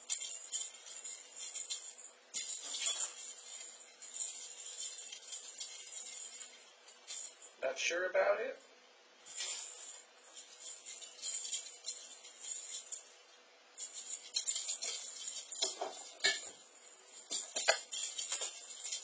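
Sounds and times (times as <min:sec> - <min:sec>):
small bell jingling: 0:00.0 - 0:07.7, 0:09.2 - 0:19.0.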